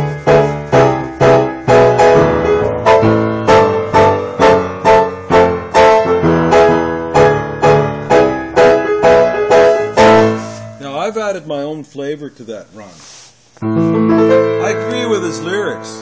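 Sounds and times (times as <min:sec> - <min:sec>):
piano chords: 0:00.0 - 0:11.7, 0:13.6 - 0:16.0.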